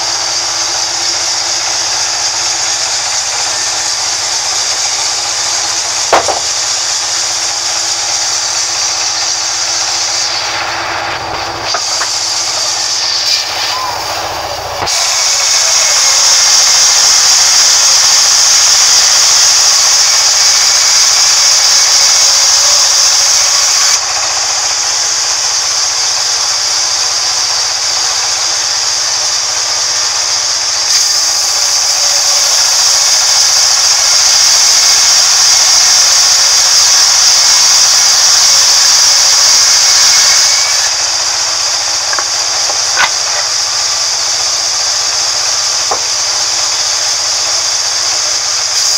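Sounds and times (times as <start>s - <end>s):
band saw cutting wood: 0.0s - 48.9s.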